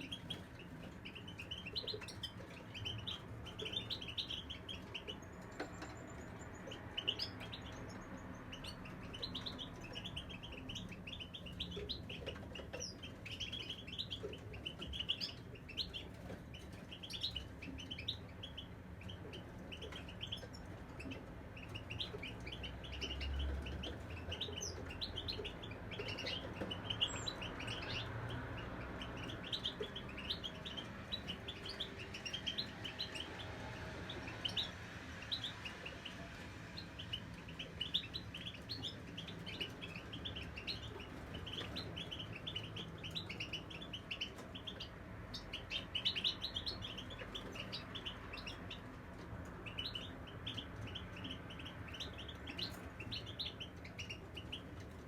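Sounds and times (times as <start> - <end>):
goldfinch twittering: 0.0 - 33.4, 36.8 - 48.8.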